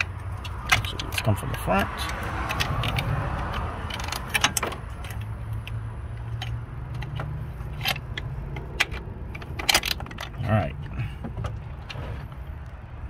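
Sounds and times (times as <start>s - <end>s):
metallic clicks and clinks: 0.0s - 11.0s.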